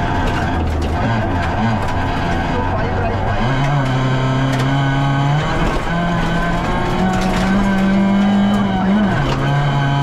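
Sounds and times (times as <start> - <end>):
rally car engine from cabin: 0.0 - 10.0
road and tyre noise: 0.0 - 10.0.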